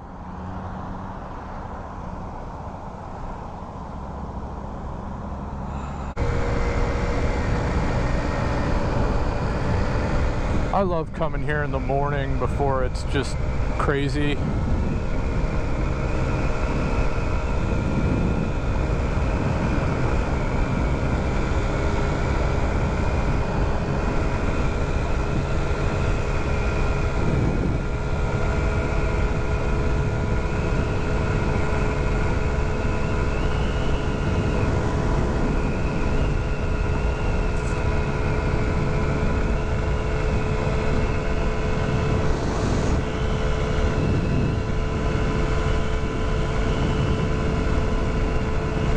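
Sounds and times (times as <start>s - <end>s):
scooter engine cruising: 0.0s - 48.9s
wind rushing over microphone: 0.0s - 48.9s.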